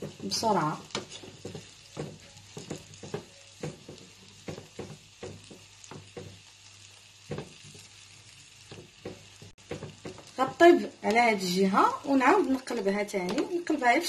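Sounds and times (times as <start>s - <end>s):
spatula scraping and tapping pan: 0.0s - 11.2s, 12.5s - 13.6s
potato frying in oil: 0.0s - 14.0s.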